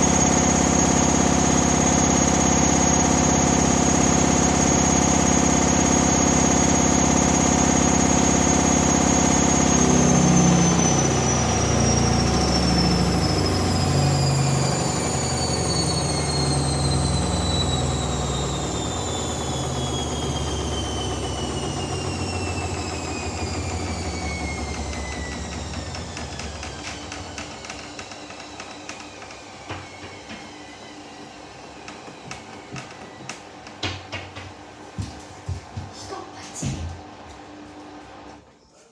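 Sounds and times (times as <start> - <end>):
washing machine motor whining: 0.0 - 38.5.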